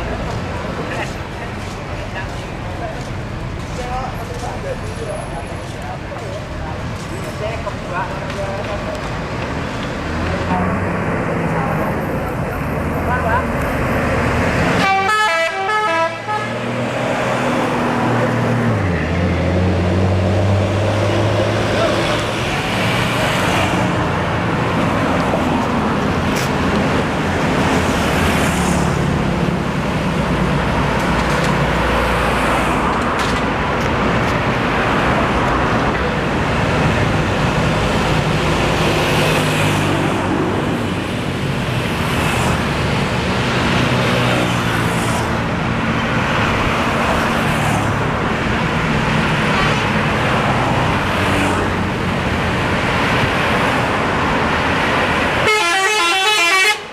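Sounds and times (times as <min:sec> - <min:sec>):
vehicles passing by: 0:00.0 - 0:56.9.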